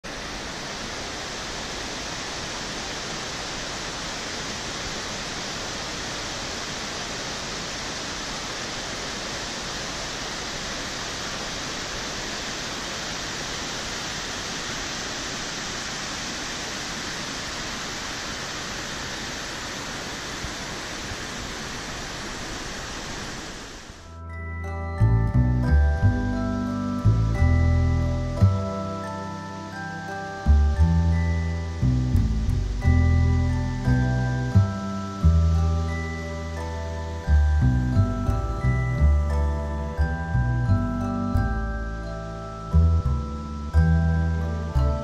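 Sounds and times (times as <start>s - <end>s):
waterfall roaring: 0.0s - 24.1s, 28.2s - 40.6s.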